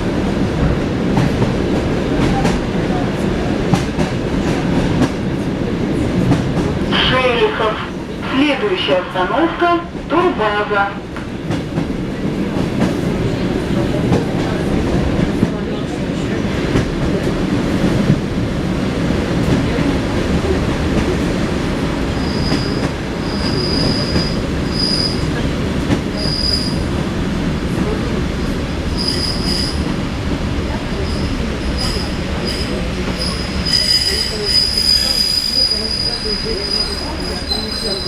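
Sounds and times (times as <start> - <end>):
train wheels rumbling over rails: 0.0 - 38.0.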